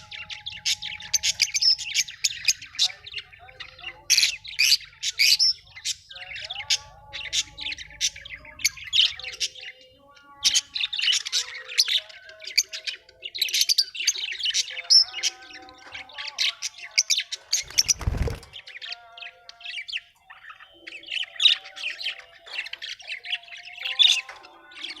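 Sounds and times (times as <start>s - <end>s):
lovebirds chirping and squawking: 0.0s - 25.0s.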